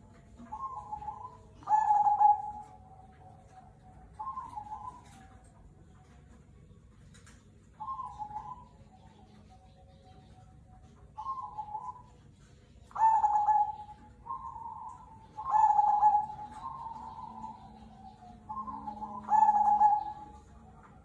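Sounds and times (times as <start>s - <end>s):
dove cooing: 0.0s - 6.2s, 7.8s - 21.0s.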